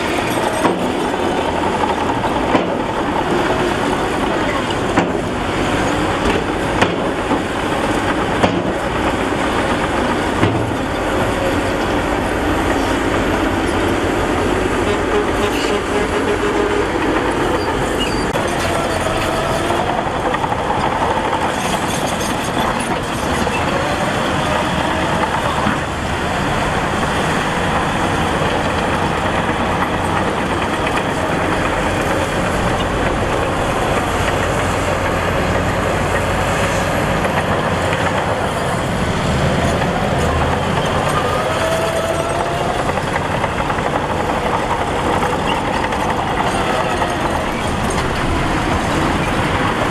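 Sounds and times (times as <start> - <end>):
diesel machinery engine drone: 0.0 - 49.9.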